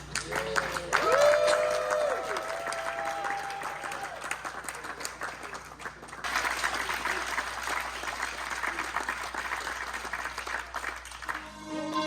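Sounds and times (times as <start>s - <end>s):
crowd applauding: 0.0s - 11.8s.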